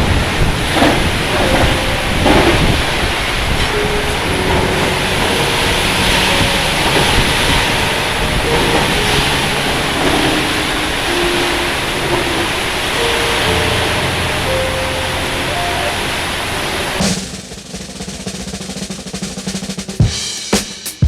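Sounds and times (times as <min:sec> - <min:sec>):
strong wind: 0:00.0 - 0:17.0
heavy rain: 0:00.0 - 0:17.5.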